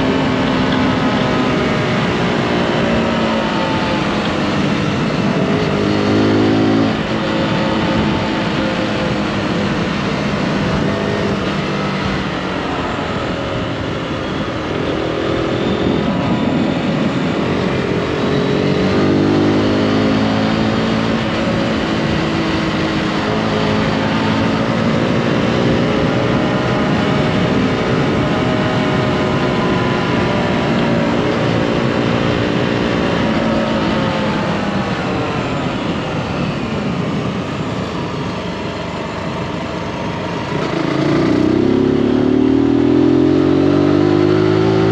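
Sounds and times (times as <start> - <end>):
motorcycle engine revving: 0.0 - 44.9
wind noise: 0.0 - 44.9.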